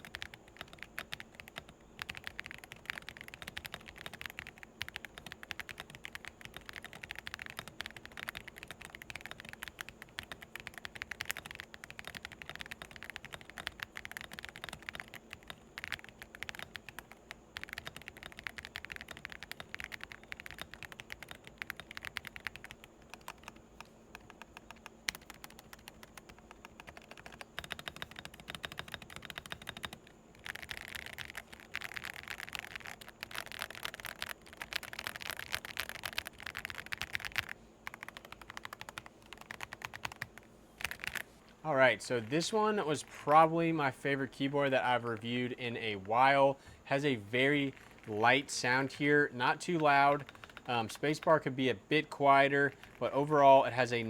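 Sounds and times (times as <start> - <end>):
mechanical keyboard typing: 0.0 - 41.2, 44.2 - 53.9.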